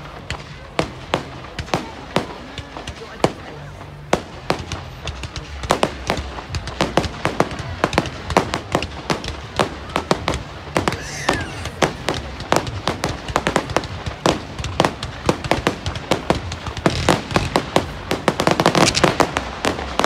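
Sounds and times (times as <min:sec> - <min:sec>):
fireworks bangs and pops: 0:00.0 - 0:20.0.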